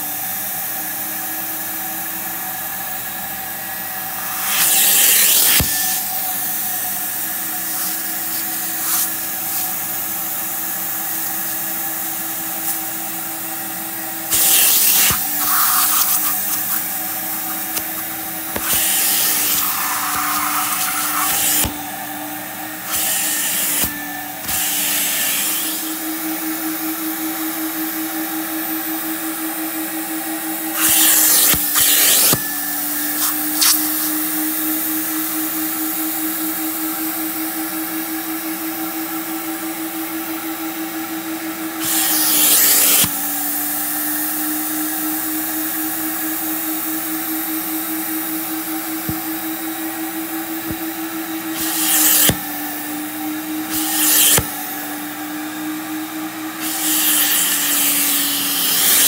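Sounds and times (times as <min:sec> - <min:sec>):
suction motor whine: 0:02.0 - 0:36.6, 0:40.3 - 0:59.0.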